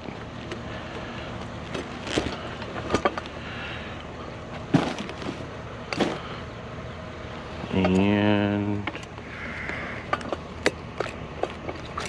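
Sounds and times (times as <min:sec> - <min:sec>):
steady background rumble: 0:00.0 - 0:12.0.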